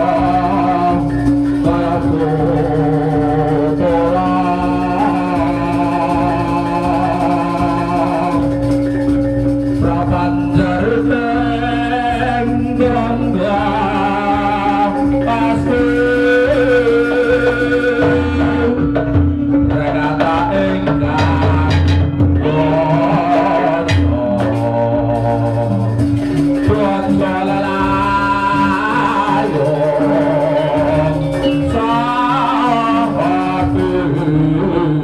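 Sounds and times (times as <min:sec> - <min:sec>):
hand drums: 0:00.0 - 0:35.0
person singing: 0:00.0 - 0:35.0.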